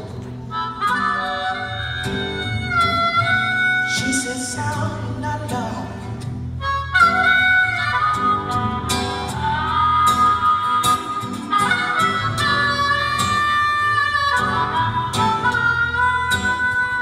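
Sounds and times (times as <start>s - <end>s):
acoustic guitar: 0.0s - 17.0s
harmonica sliding notes: 0.1s - 5.2s, 6.5s - 17.0s.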